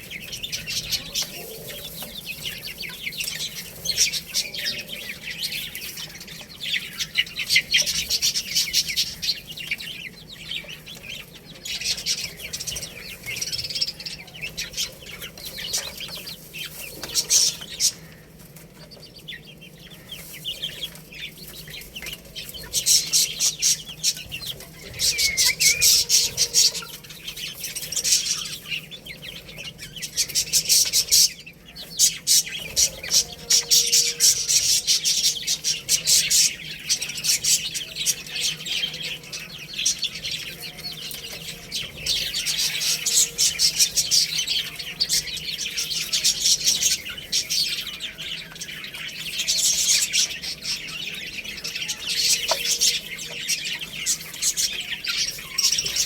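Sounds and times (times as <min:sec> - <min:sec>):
baby chicks peeping: 0:00.0 - 0:56.0.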